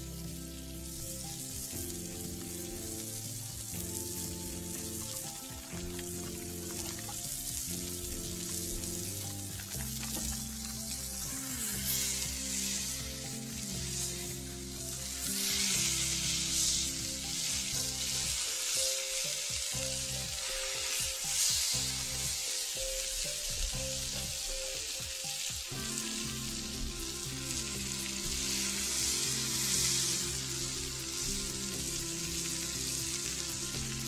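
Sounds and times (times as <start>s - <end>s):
burger patties sizzling on griddle: 0.0s - 34.0s.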